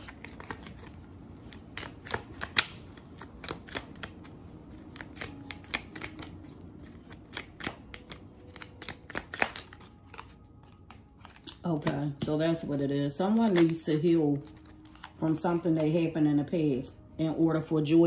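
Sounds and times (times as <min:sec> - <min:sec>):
cards being shuffled: 0:00.0 - 0:12.3, 0:13.2 - 0:15.9.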